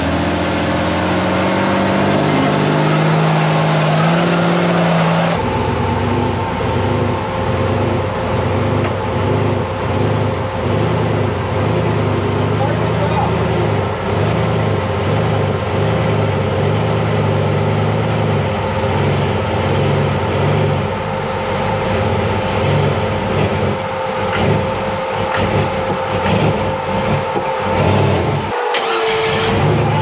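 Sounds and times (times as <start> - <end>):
buggy engine running at low revs: 0.0 - 30.0
steady whine: 0.0 - 30.0.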